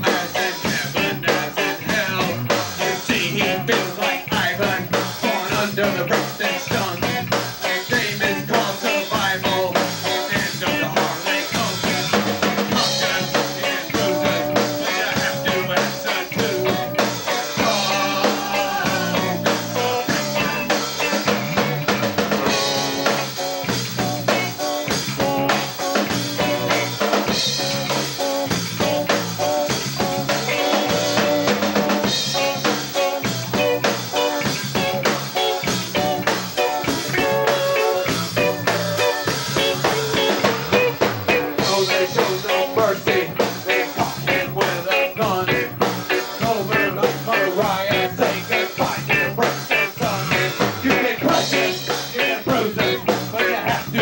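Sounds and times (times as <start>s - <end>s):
live rock band playing: 0.0s - 54.0s
steady drum beat: 0.0s - 54.0s.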